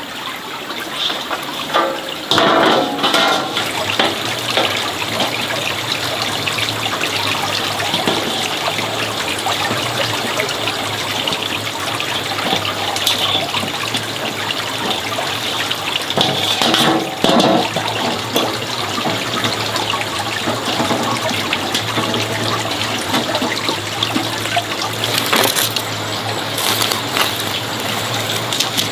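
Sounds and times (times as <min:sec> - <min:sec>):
water running: 0:00.0 - 0:28.9
water splash: 0:00.9 - 0:28.9.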